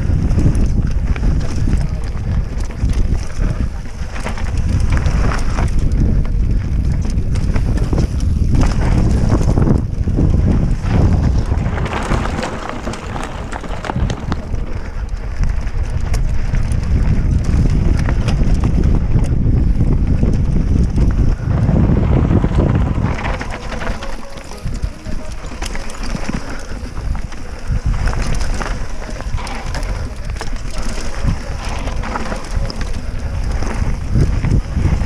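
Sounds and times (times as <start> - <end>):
bike tyre noise: 0.0 - 35.0
wind buffeting microphone: 0.0 - 35.0
bike rattling knocks: 0.1 - 35.0.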